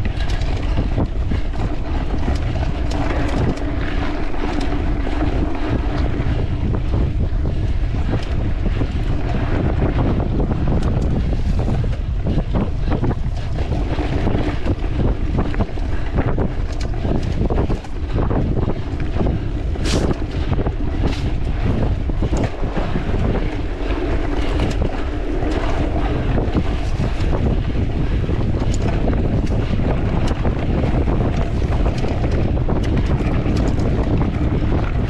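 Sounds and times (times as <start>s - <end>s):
bike rattling on rough trail: 0.0s - 35.0s
wind buffeting microphone: 0.0s - 35.0s.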